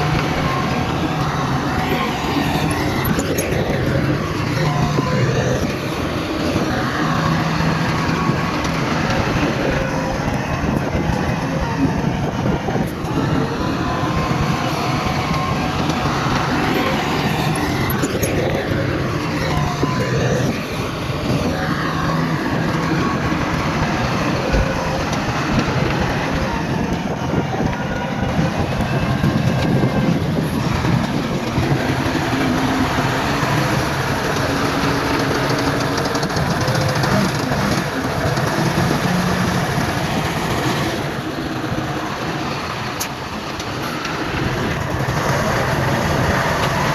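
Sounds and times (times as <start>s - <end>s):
diesel engines of heavy machinery: 0.0s - 46.9s.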